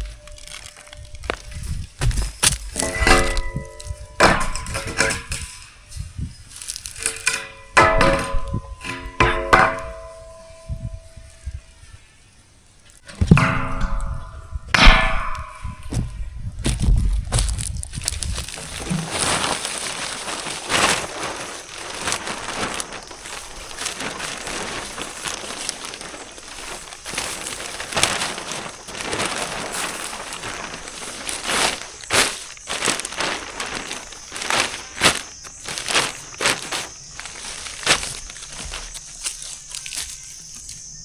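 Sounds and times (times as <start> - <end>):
dry leaves crunching: 0.0 - 12.2, 12.8 - 41.0.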